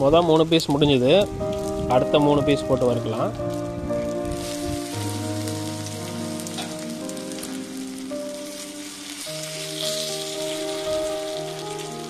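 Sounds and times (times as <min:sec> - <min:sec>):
background music: 0:00.0 - 0:12.0
fish sizzling in oil: 0:00.0 - 0:12.0.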